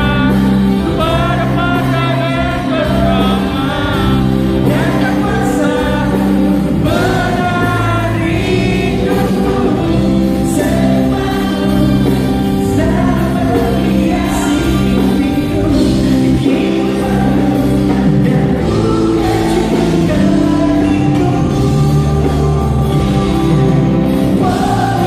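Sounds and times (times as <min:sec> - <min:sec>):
live band with singer: 0:00.0 - 0:25.0.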